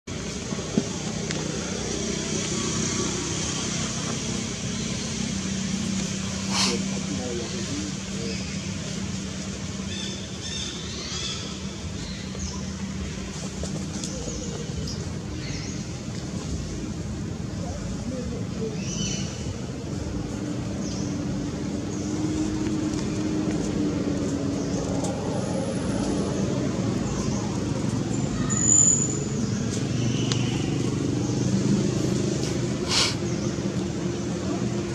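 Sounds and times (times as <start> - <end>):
traffic rumble: 0.0 - 34.9.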